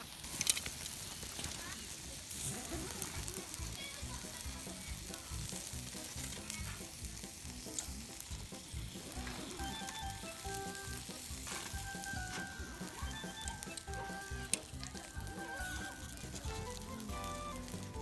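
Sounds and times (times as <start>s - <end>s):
food sizzling in a frying pan: 0.0s - 18.0s
light background music: 2.4s - 18.0s.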